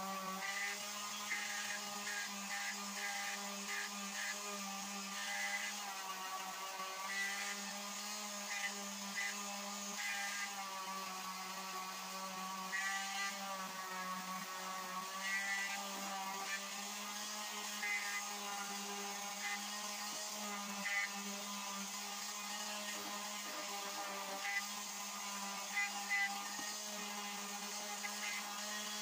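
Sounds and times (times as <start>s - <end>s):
electric palm sander running: 0.0s - 29.0s
scratchy sanding bursts: 0.0s - 29.0s.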